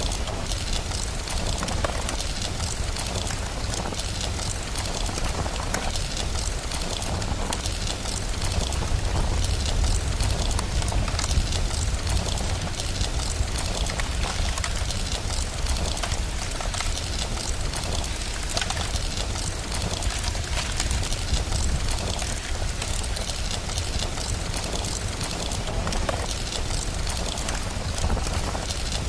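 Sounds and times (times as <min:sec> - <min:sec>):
fireplace crackling: 0:00.0 - 0:29.0
steady rain: 0:00.0 - 0:29.0.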